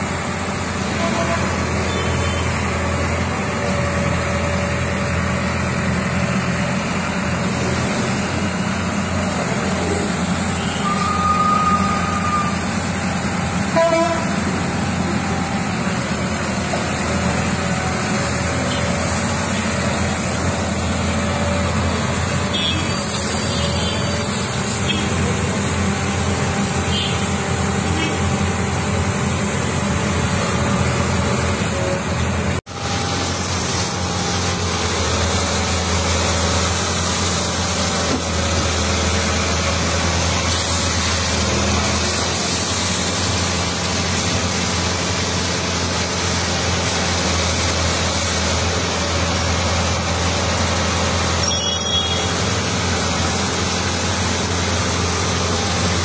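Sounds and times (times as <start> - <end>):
diesel engine running: 0.0 - 56.0
road traffic passing: 0.0 - 56.0.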